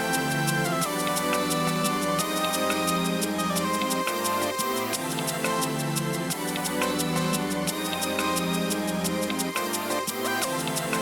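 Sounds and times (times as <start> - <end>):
light ticking beat: 0.0 - 11.0
synth chords with slow melody: 0.0 - 11.0.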